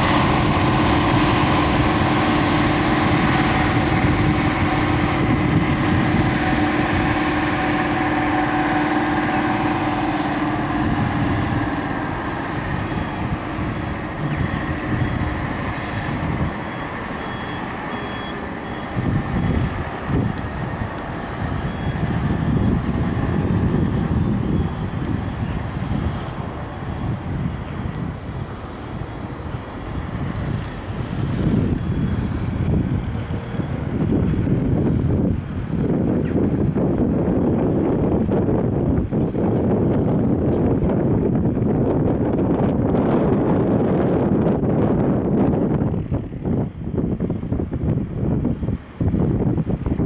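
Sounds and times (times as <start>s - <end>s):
engine whine: 0.0s - 50.0s
truck engine rumbling: 0.0s - 50.0s.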